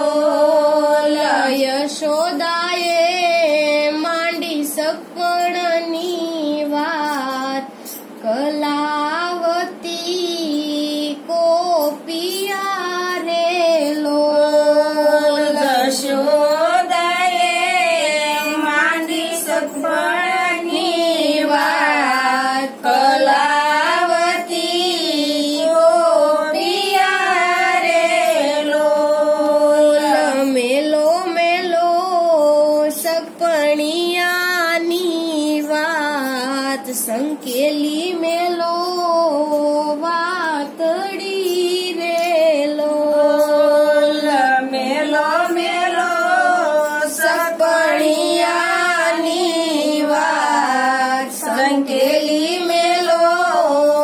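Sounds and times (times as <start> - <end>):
women singing devotional song: 0.0 - 54.0.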